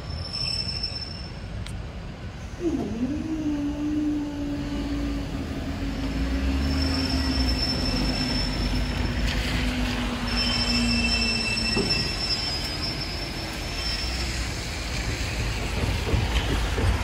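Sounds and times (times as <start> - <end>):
passing train whine: 0.0 - 17.0
train low rumble: 0.0 - 17.0.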